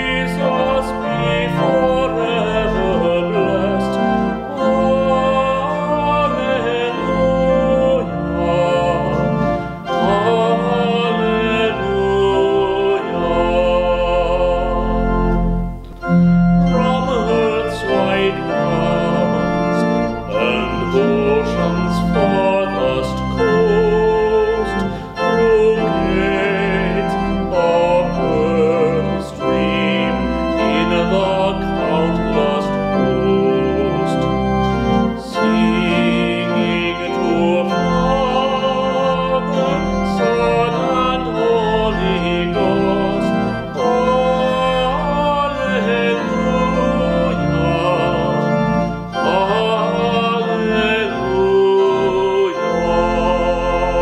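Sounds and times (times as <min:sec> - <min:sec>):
man singing a hymn: 0:00.0 - 0:54.0
organ chords: 0:00.0 - 0:54.0.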